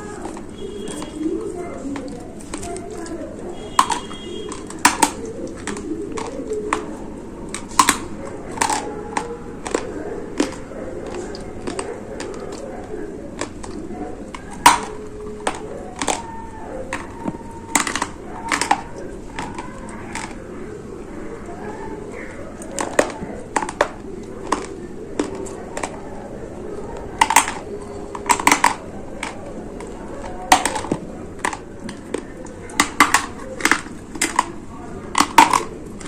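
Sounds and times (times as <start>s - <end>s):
clay crunching being chewed: 0.0s - 20.5s, 21.4s - 26.1s, 26.8s - 36.0s.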